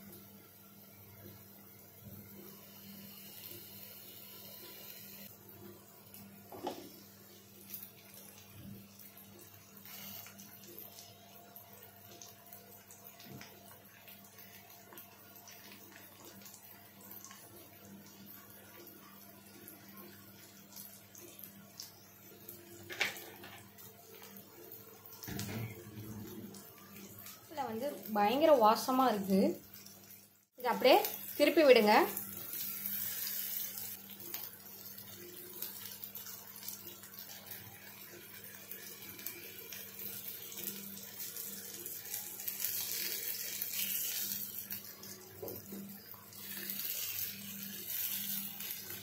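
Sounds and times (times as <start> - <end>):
oil sizzling in a pan: 0.0 - 49.0.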